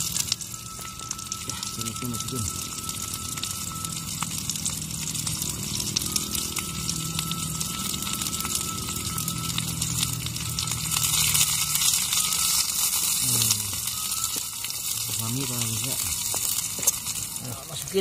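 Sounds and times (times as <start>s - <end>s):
hot oil sizzling in a pan: 0.0s - 18.0s.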